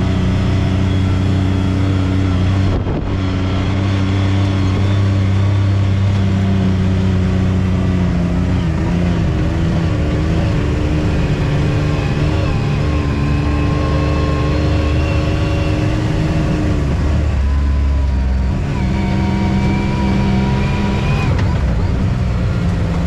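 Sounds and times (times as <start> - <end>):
off-road vehicle engine running: 0.0 - 23.0.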